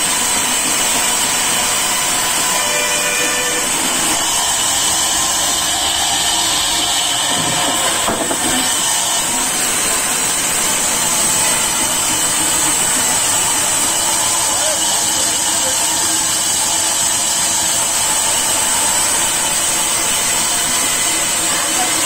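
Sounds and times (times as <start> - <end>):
band saw cutting log: 0.0 - 22.0.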